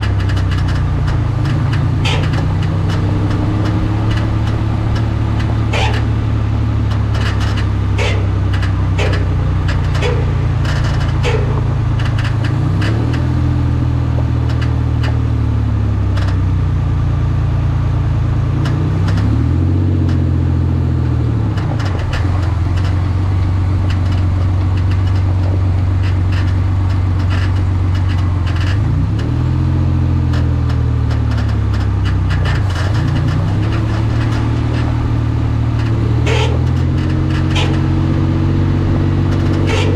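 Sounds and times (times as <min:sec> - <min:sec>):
irregular clicks and knocks: 0:00.0 - 0:39.9
vehicle engine idling and revving: 0:00.0 - 0:39.9.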